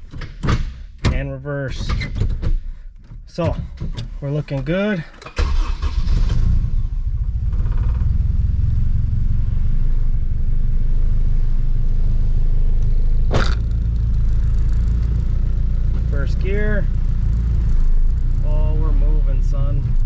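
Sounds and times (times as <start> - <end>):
car engine starting and idling: 0.0 - 20.0.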